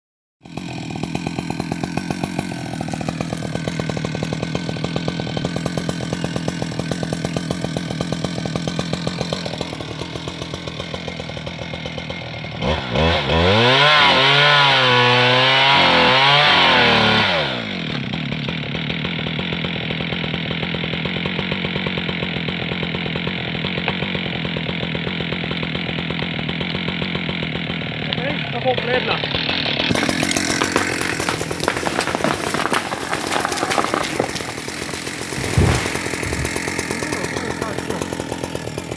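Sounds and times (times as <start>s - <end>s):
chainsaw idling and revving: 0.4s - 38.9s.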